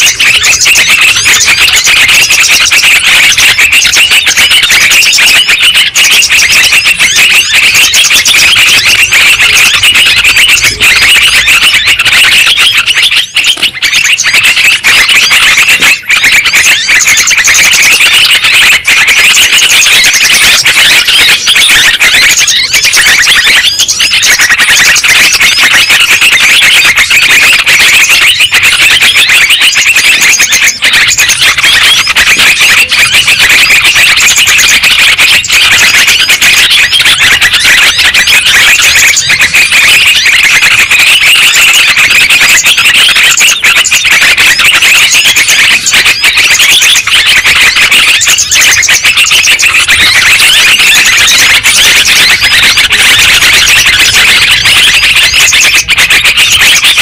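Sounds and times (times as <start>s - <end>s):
bulbuls chattering calls: 0.0s - 57.0s.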